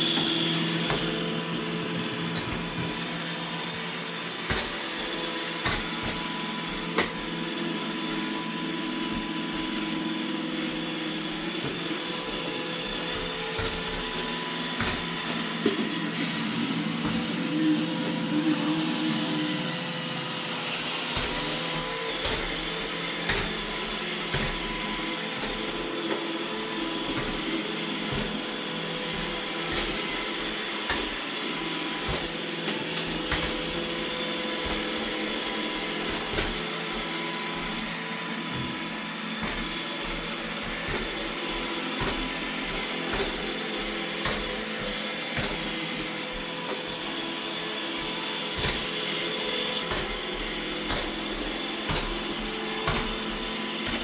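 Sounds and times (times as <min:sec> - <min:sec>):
robot vacuum running: 0:00.0 - 0:54.0.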